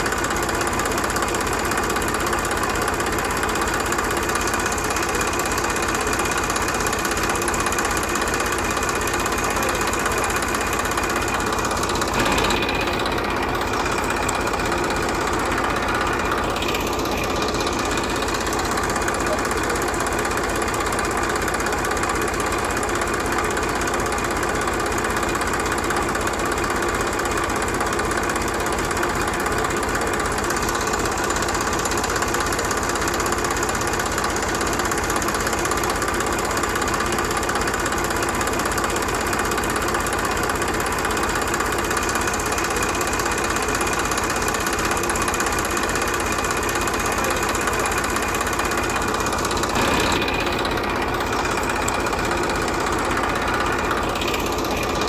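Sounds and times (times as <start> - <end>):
small model tractor motor chugging: 0.0 - 55.0.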